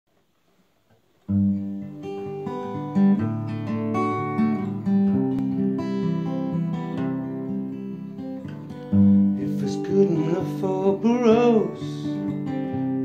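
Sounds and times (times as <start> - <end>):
acoustic guitar chords: 1.2 - 13.0.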